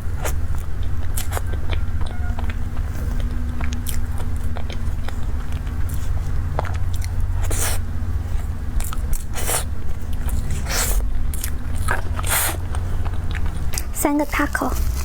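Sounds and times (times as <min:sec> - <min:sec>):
chewing and mouth smacks: 0:00.0 - 0:15.0
steady low hum: 0:00.0 - 0:15.0.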